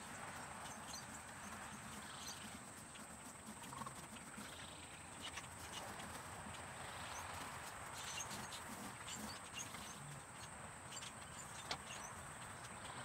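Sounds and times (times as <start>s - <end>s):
hens clucking softly: 0.0s - 13.0s
small ticks: 0.0s - 13.0s.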